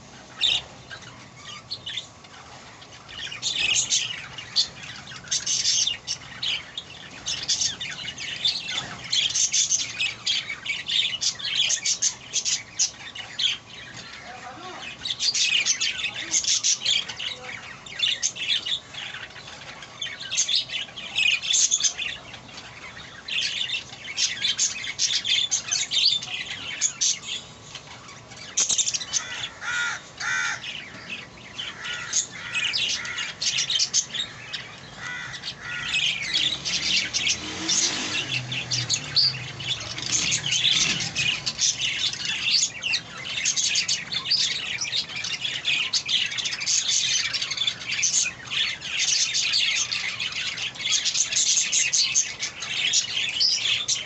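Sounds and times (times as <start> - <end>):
budgerigar chicks chirping: 0.0 - 54.0.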